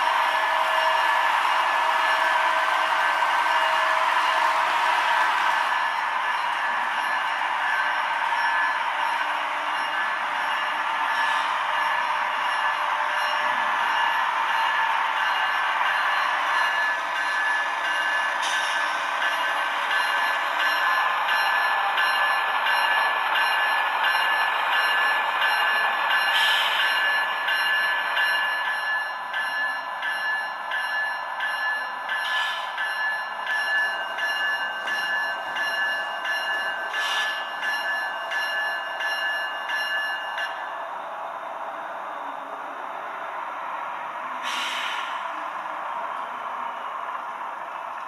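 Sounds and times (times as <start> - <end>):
model locomotive diesel engine sound: 0.0 - 48.0.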